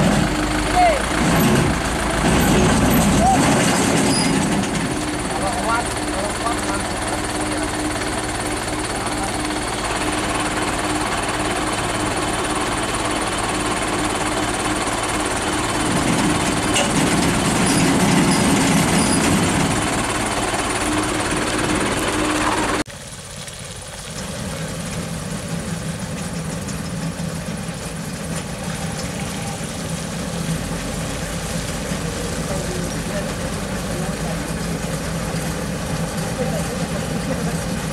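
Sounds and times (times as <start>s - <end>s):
engine idling: 0.0s - 37.9s
truck engines running: 0.0s - 37.9s.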